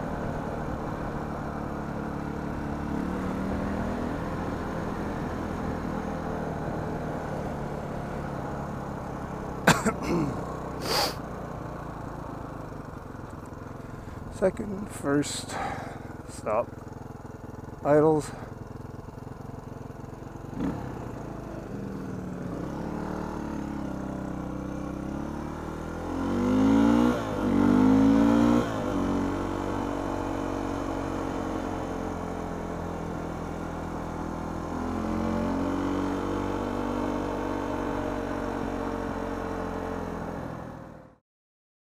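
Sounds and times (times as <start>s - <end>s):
motorcycle engine idling and revving: 0.0s - 41.2s.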